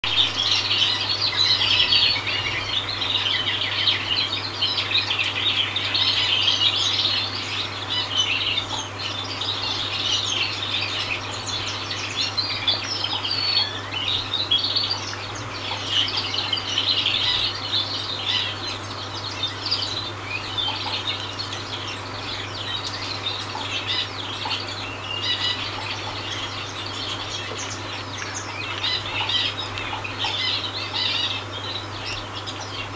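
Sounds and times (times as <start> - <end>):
chicks peeping: 0.0 - 32.9
steady low hum: 0.1 - 32.9.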